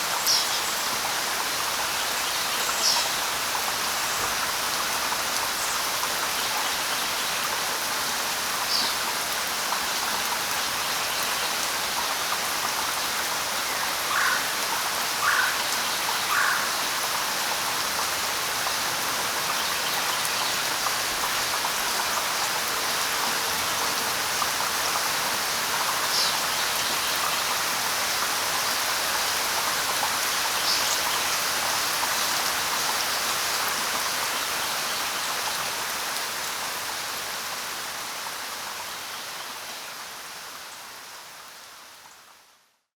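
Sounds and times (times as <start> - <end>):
rain falling through foliage: 0.0 - 42.9.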